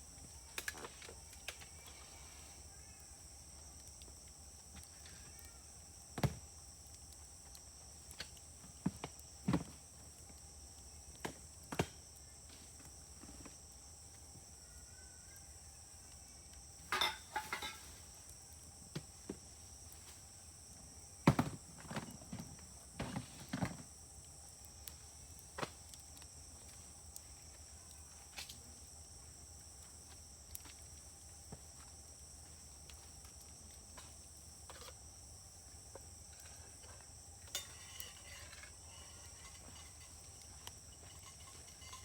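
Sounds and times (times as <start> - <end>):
wood fire crackling and popping: 0.0 - 14.4, 16.0 - 42.0.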